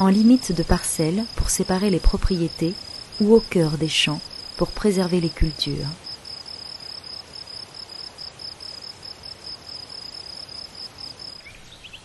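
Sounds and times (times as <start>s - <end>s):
faint background hiss: 0.0s - 12.0s
insect chirping: 0.0s - 12.0s.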